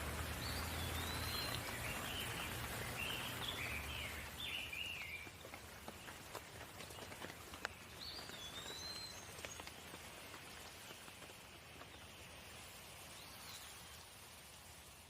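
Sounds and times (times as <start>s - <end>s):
light rain: 0.0s - 15.0s.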